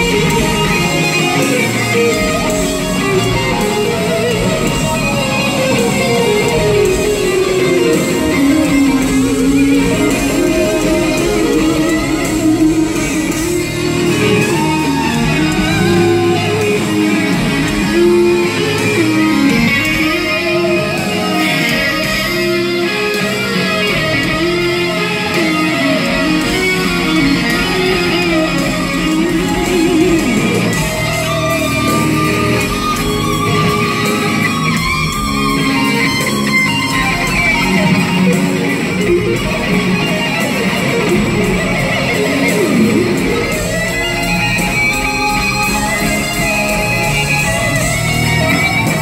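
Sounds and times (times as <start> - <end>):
band playing blues: 0.0 - 49.0
electric guitar solo: 0.0 - 49.0.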